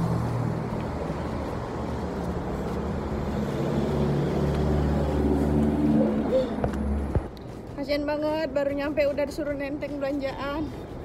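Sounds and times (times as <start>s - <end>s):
street traffic engine hum: 0.0s - 11.0s.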